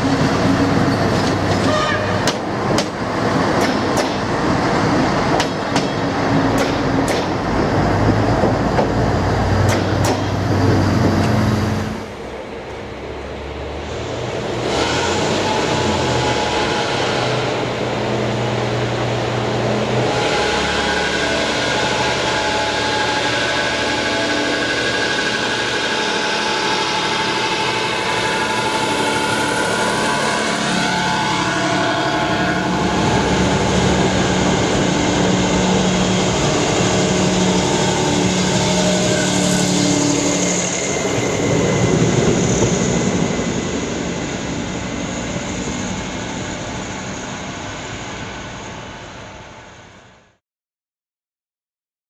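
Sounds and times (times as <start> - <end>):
train engine running steadily: 0.0 - 50.4.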